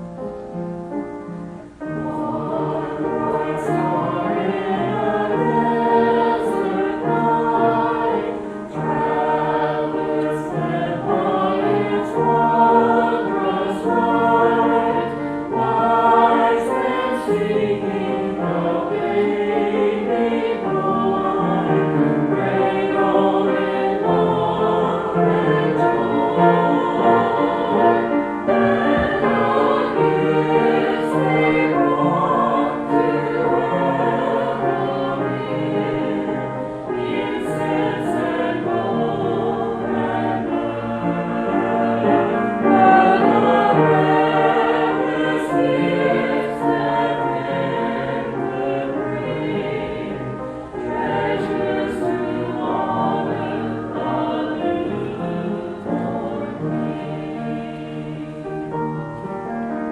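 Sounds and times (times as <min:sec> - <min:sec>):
choir singing a hymn: 0:00.0 - 0:59.9
instrumental accompaniment: 0:00.0 - 0:59.9.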